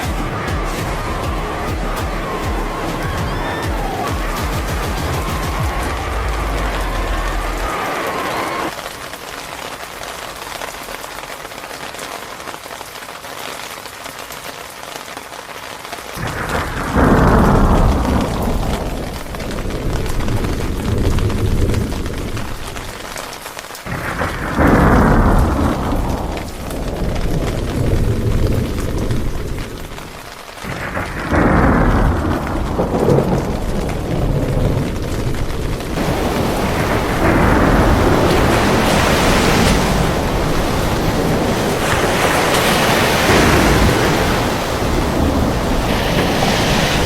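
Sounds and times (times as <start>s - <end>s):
deep thunder rumbling: 0.0s - 8.8s, 16.2s - 23.3s, 23.9s - 47.0s
heavy rain: 0.0s - 47.0s.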